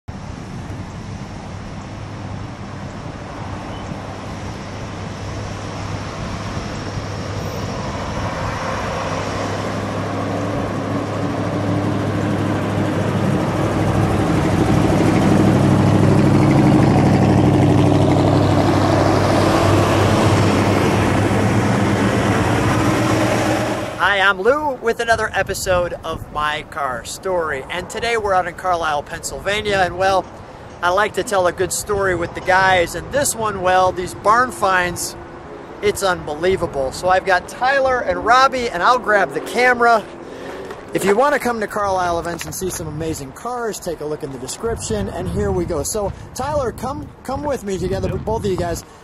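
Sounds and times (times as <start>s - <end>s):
car engines passing by: 0.1s - 49.0s.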